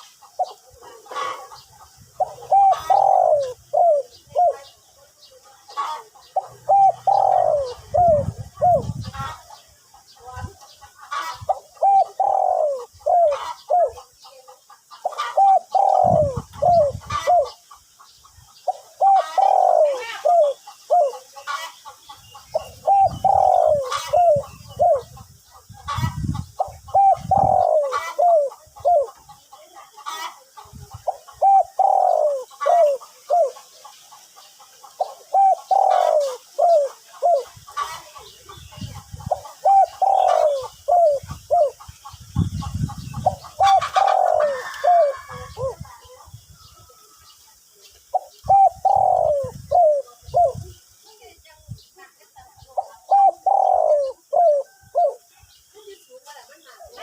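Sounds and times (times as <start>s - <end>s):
dove cooing: 0.0s - 9.5s, 10.4s - 14.1s, 15.0s - 17.6s, 18.7s - 21.7s, 22.5s - 25.2s, 25.8s - 33.8s, 34.9s - 46.2s, 48.1s - 50.8s, 52.7s - 55.5s.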